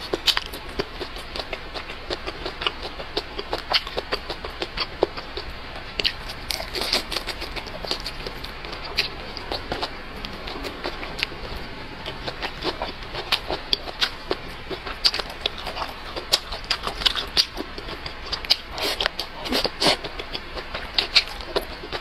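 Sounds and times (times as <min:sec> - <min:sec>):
chewing and mouth smacking: 0:00.0 - 0:22.0.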